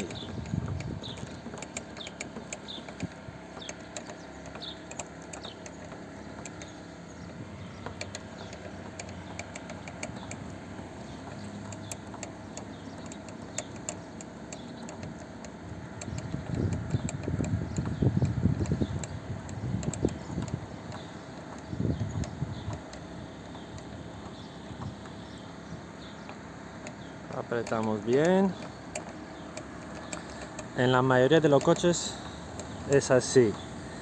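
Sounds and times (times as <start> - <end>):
screwdriver metal clicks: 0.0 - 23.0, 27.6 - 33.6.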